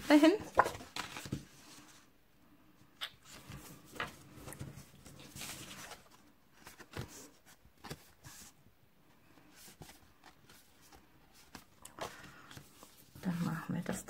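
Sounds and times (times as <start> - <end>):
paper rustling: 0.0 - 2.1, 3.1 - 8.6, 9.3 - 13.9.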